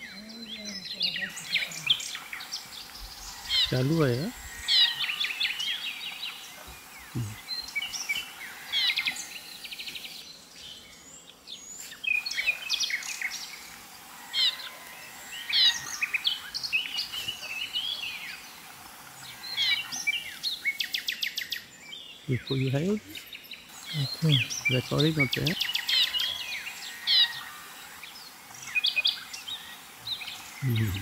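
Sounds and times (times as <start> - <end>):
birds chirping and trilling: 0.0 - 31.0
faint steady hiss: 0.0 - 31.0.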